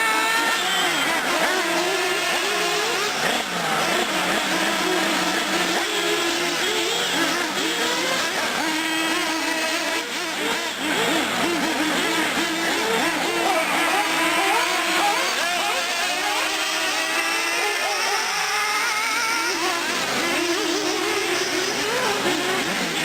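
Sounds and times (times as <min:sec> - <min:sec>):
small nitro engines revving: 0:00.0 - 0:23.0.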